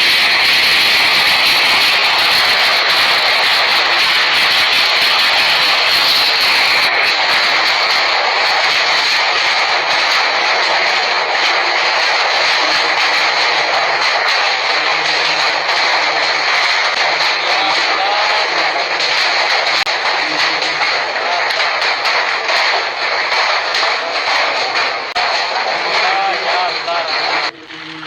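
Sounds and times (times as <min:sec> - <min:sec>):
roar of hailstones pelting down: 0:00.0 - 0:28.0
sharp clicks of hailstones striking: 0:00.0 - 0:28.0.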